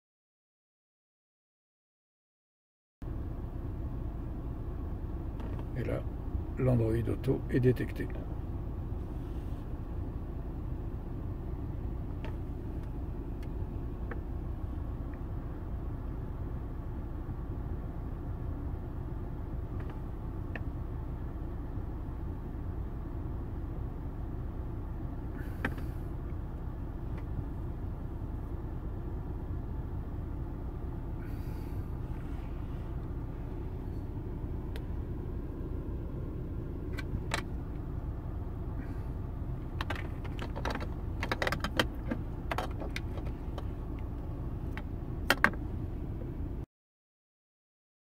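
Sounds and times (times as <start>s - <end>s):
car interior rumble: 3.0s - 46.6s.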